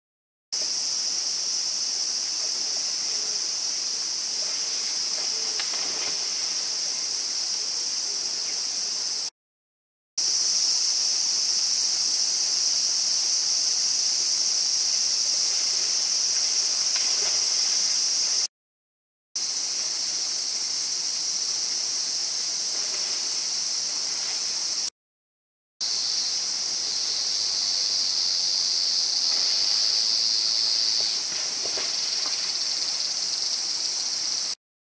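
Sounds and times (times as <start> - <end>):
insect chorus drone: 0.6 - 9.3, 10.2 - 18.5, 19.4 - 24.9, 25.8 - 34.6.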